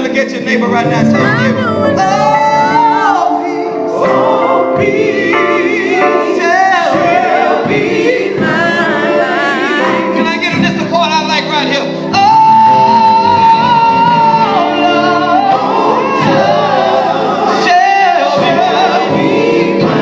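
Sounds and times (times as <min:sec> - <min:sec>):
male vocal group singing: 0:00.0 - 0:20.0
musical accompaniment: 0:00.0 - 0:20.0.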